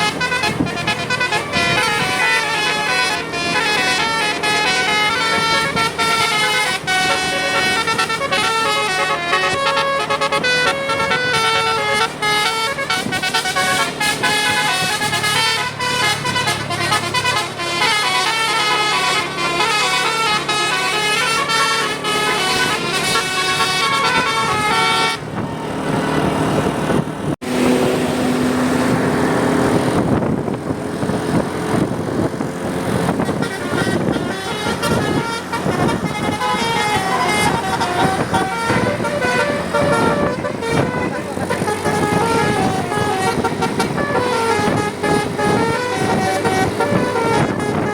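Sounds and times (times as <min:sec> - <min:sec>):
musical air horn melody: 0:00.0 - 0:26.0, 0:32.9 - 0:47.9
engine noise: 0:00.0 - 0:47.9
street noise: 0:00.0 - 0:47.9.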